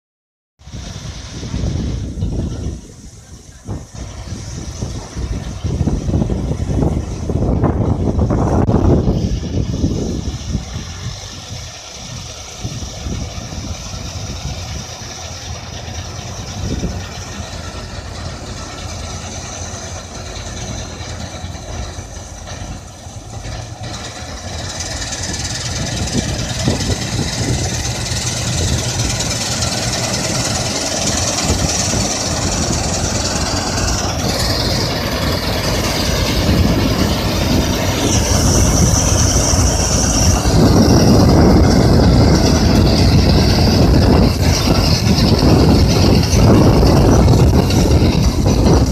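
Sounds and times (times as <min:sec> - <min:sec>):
combine harvester running: 0:00.6 - 0:48.9.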